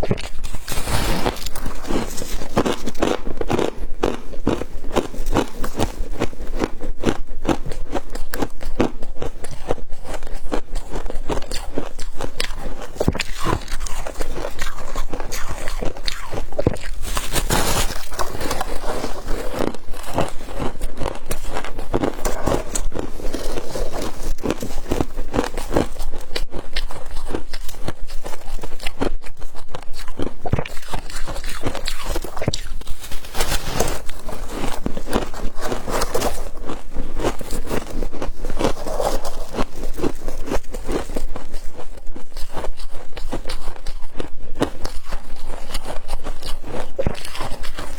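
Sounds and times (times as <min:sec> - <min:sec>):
crisp crunching and chewing: 0:00.0 - 0:47.9.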